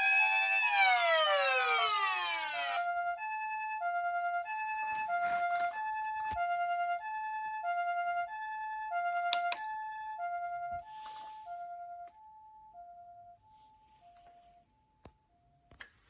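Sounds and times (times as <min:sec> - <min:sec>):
two-tone ambulance siren: 0:00.0 - 0:14.6.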